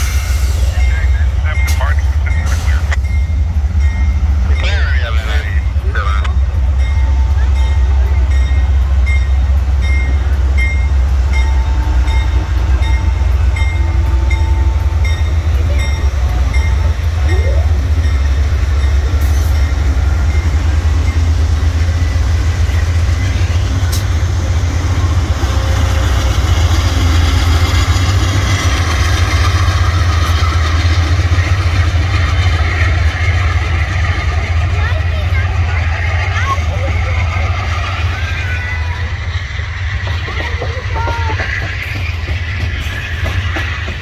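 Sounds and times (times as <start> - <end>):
diesel locomotive rumble: 0.0 - 44.0
train wheels rolling on rails: 0.0 - 44.0
locomotive bell ringing: 0.6 - 39.3.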